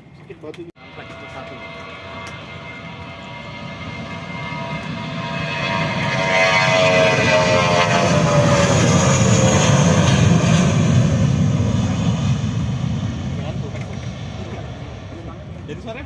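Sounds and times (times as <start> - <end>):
jet engine whine: 0.0 - 16.0
deep jet rumble: 0.8 - 16.0.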